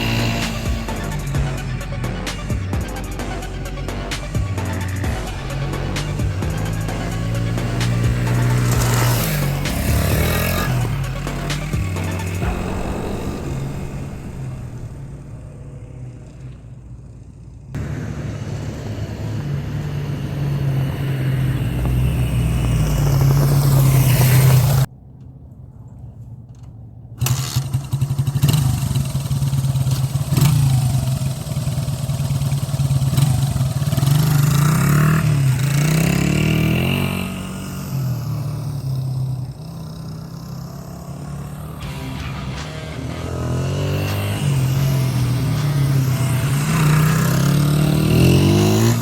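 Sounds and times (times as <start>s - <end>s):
motorcycle engine revving: 0.0s - 24.9s, 27.2s - 49.0s.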